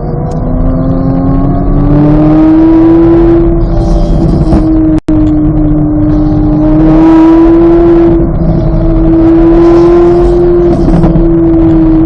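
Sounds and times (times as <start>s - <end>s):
sports car engine at high revs: 0.0s - 12.0s.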